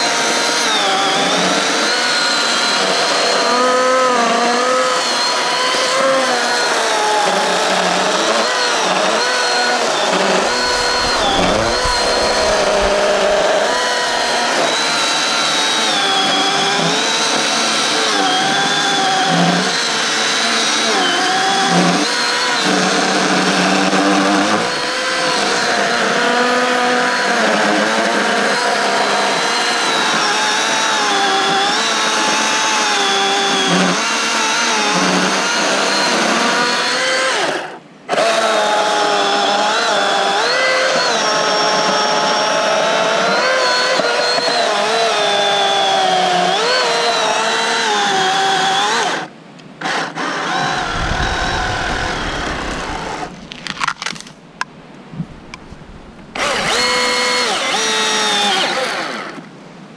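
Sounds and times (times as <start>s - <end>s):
electric chainsaw cutting log: 0.0s - 59.5s.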